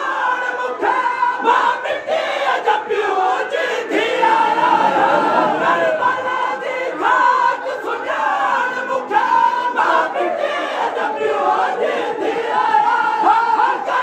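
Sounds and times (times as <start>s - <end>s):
crowd of men chanting a lament: 0.0s - 14.0s.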